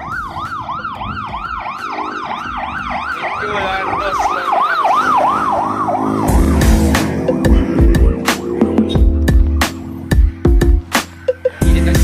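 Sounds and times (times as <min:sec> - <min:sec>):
siren yelping: 0:00.0 - 0:11.5.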